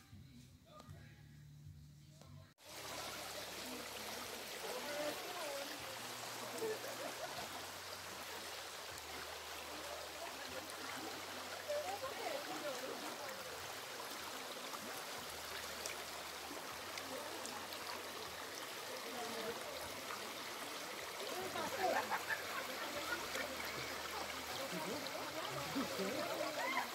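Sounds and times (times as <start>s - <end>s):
stream rushing over stones: 2.6s - 26.9s.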